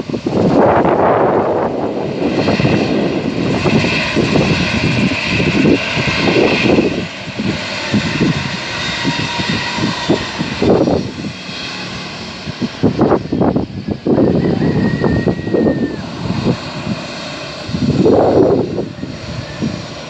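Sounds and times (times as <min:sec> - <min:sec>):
jet engines whining: 0:00.0 - 0:20.0
low engine rumble: 0:00.0 - 0:20.0.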